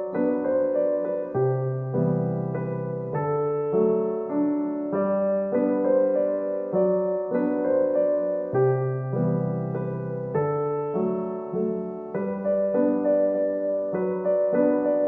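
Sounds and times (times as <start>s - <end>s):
gentle piano piece: 0.0s - 15.0s.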